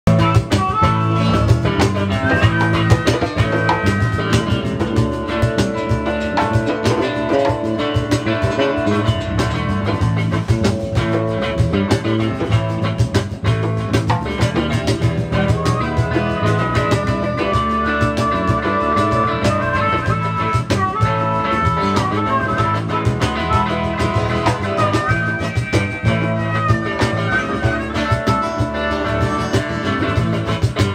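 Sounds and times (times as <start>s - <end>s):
harmonica melody: 0.1s - 13.0s, 14.3s - 30.9s
live blues-rock band: 0.1s - 30.9s.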